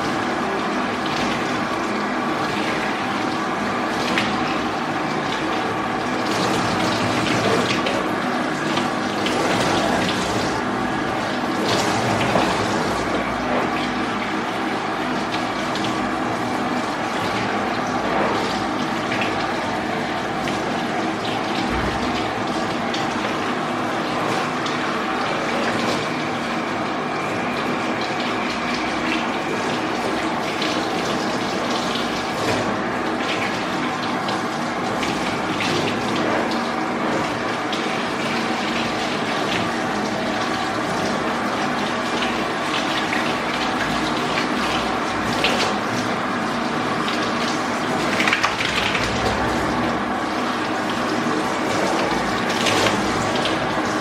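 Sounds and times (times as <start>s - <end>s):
motor hum: 0.0s - 54.0s
water running from shower hose: 0.0s - 54.0s.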